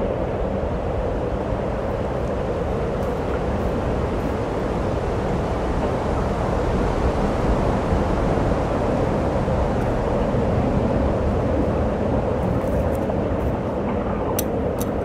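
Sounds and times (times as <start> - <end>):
steady rumbling background noise: 0.0 - 15.0.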